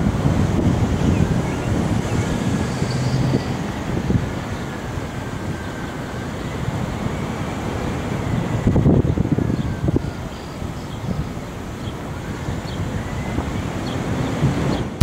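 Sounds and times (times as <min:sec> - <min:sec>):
car engine and road rumble: 0:00.0 - 0:15.0
wind noise on microphone: 0:00.0 - 0:15.0.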